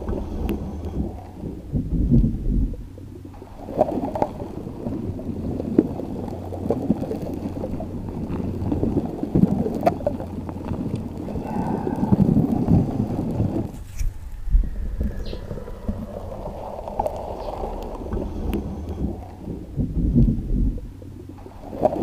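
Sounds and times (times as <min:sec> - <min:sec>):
underwater churn and gurgle: 0:00.0 - 0:22.0.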